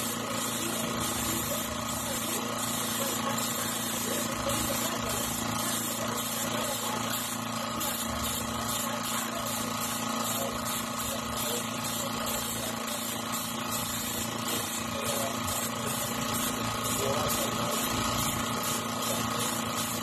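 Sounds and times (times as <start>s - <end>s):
air compressor humming: 0.0s - 20.0s
airbrush hissing: 0.0s - 20.0s.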